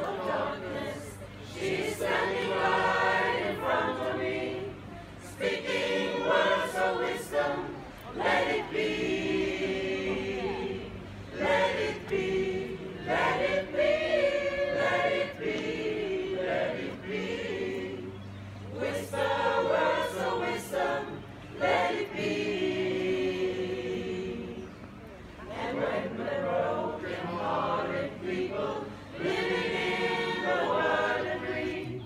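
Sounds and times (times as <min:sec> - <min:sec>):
choir singing a cappella: 0:00.0 - 0:32.0.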